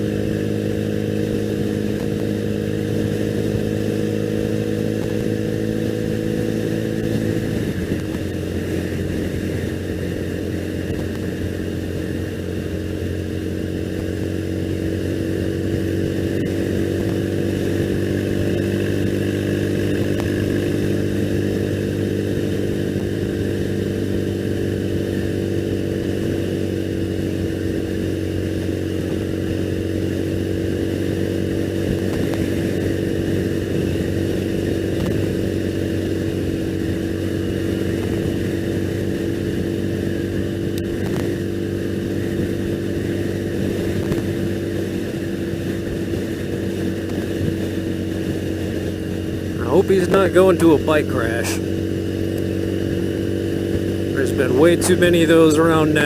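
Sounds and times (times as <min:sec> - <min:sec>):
motorcycle engine cruising: 0:00.0 - 0:56.0
rush of air and road: 0:00.0 - 0:56.0.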